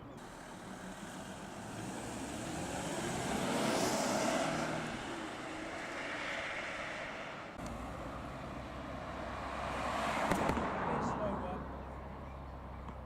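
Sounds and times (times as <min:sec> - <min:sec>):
car driving past: 0:00.2 - 0:12.7.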